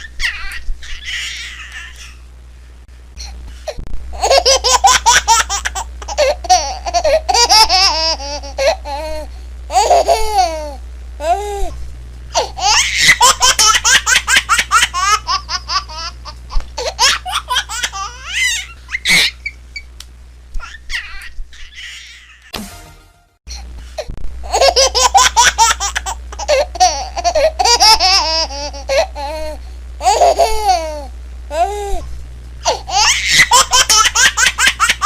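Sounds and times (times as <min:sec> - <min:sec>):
baby laughing: 0:00.0 - 0:02.2, 0:04.2 - 0:11.4, 0:12.4 - 0:19.6, 0:20.6 - 0:22.5, 0:24.4 - 0:31.7, 0:32.6 - 0:35.0.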